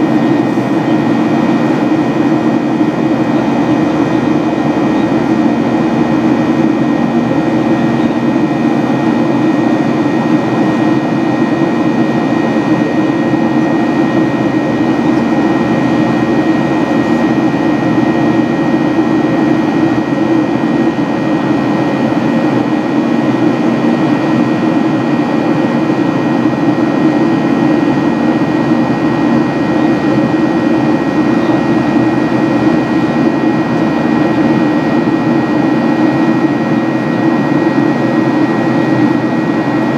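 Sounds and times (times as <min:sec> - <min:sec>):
high engine whine: 0:00.0 - 0:39.9
jet engine rush in cabin: 0:00.0 - 0:39.9.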